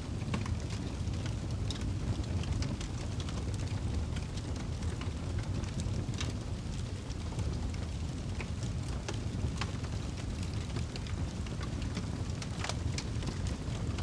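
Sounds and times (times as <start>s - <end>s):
low rumble of flames: 0.0s - 14.0s
fire crackling and popping: 0.1s - 14.0s.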